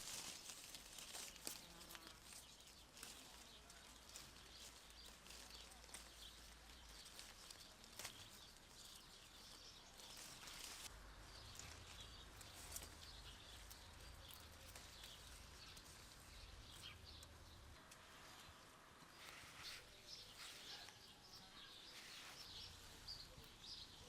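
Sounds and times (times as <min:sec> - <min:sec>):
small bird chirps: 0:01.5 - 0:17.8, 0:19.2 - 0:24.0.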